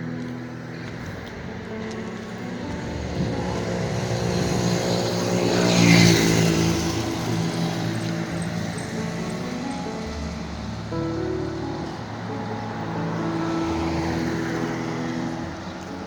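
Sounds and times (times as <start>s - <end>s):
car passing close by: 0.8s - 16.0s.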